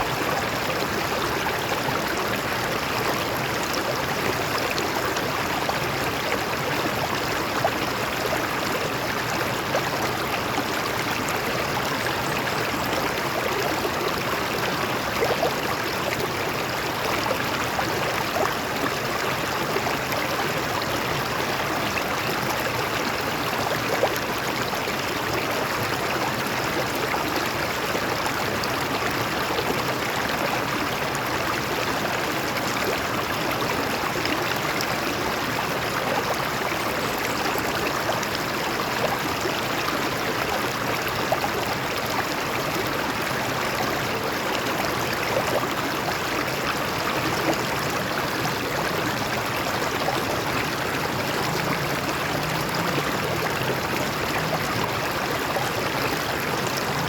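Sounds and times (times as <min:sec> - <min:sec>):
stream water over rocks: 0:00.0 - 0:57.0.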